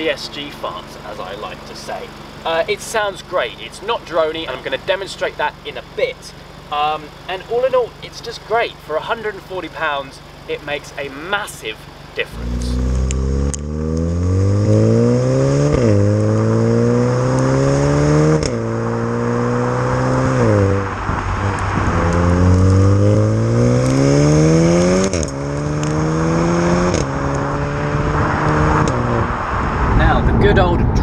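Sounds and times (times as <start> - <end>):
exhaust crack on shifts: 0.0 - 30.3
car engine revving: 0.0 - 31.0
road and wind hiss: 0.0 - 31.0.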